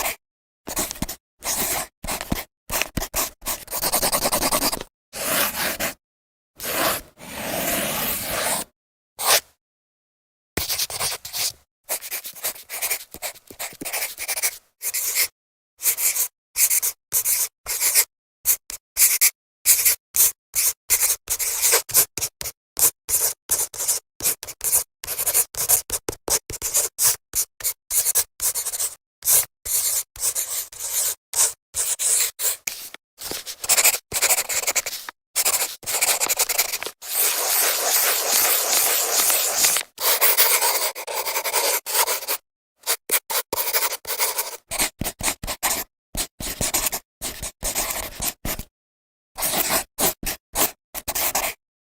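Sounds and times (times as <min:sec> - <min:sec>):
marker scratching on whiteboard: 0:00.0 - 0:06.0, 0:06.6 - 0:09.5, 0:10.6 - 0:48.7, 0:49.4 - 0:51.6.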